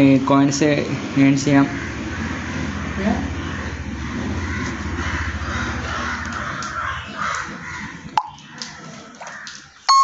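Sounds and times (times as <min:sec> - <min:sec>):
low steady hum: 0:00.0 - 0:08.4
harsh bird calls: 0:01.4 - 0:10.0.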